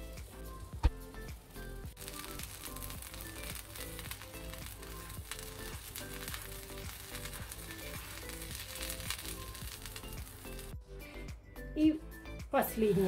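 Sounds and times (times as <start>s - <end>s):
flatbread sizzling in a pan: 0.0s - 10.7s
background music: 0.0s - 13.0s.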